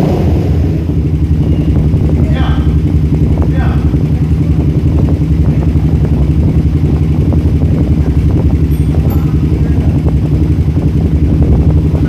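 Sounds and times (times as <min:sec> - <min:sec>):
motorcycle engine idling: 0:00.6 - 0:12.0.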